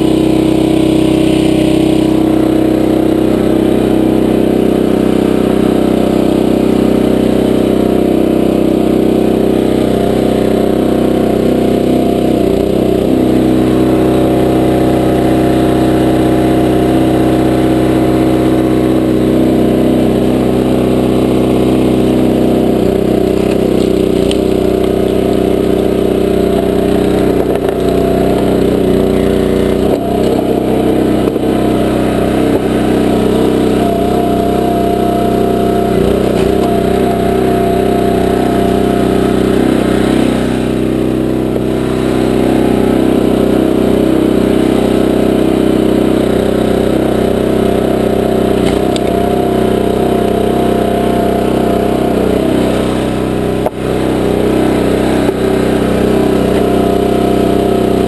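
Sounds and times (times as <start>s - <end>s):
log splitter engine running: 0.0s - 58.0s.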